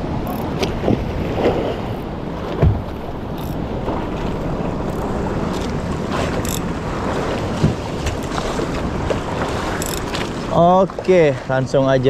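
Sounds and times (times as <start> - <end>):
wind on microphone: 0.0 - 10.5
choppy water washing around boat: 0.0 - 12.0.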